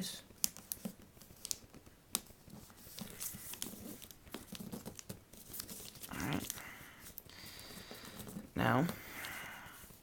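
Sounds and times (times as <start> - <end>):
paper crinkling and rustling: 0.4 - 10.0.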